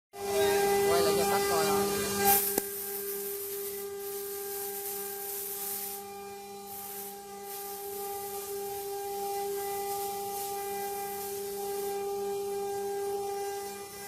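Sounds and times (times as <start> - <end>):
hiss of wood cutting: 0.2 - 14.0
router spindle whine: 0.2 - 14.0.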